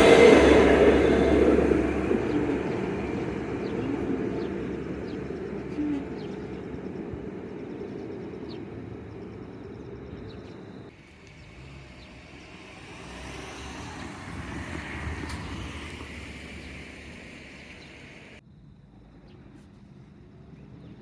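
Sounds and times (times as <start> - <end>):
tram rumbling: 0.0 - 18.4.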